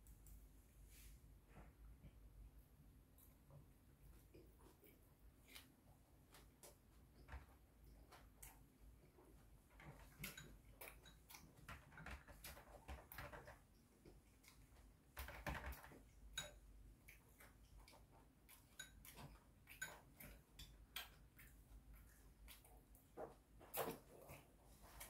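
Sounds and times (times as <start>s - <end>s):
soft chewing: 0.0s - 25.0s.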